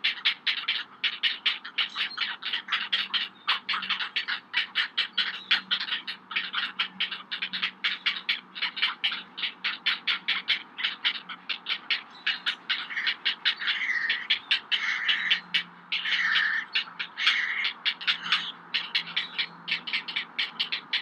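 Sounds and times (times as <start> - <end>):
heron chicks squawking: 0.0 - 21.0
heron chicks harsh clicking: 0.1 - 21.0.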